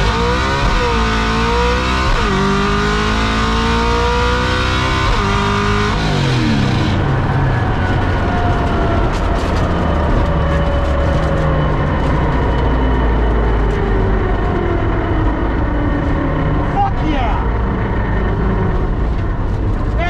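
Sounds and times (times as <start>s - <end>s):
car engine coasting down: 0.0s - 20.0s
road and drivetrain noise: 0.0s - 20.0s.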